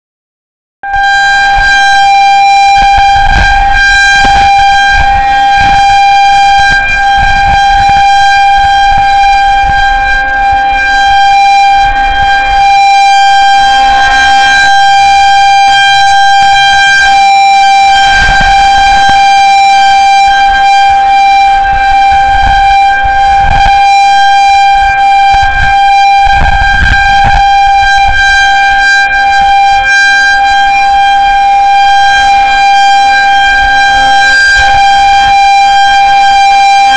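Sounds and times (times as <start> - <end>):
warning siren steady tone: 0.8 - 36.9.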